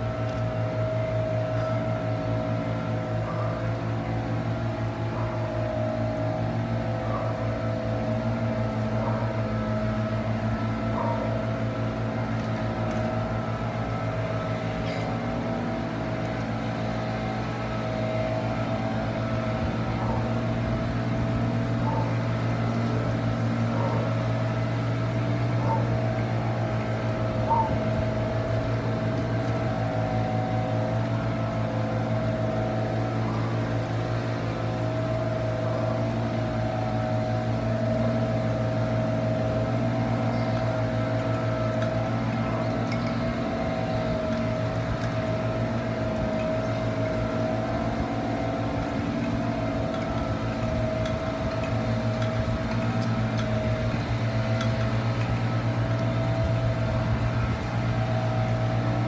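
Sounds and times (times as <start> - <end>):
motor drone: 0.0 - 59.0.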